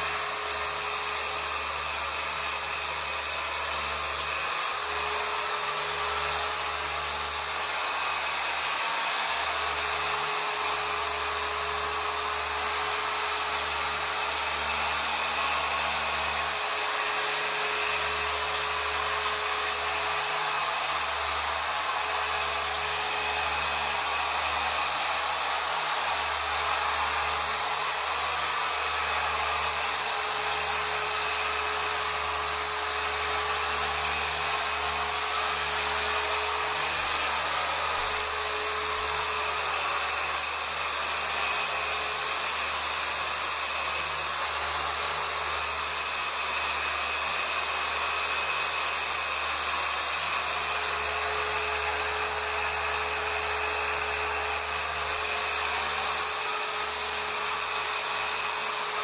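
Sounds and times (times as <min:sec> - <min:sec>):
orbital polisher scrubbing fabric: 0:00.0 - 0:59.0.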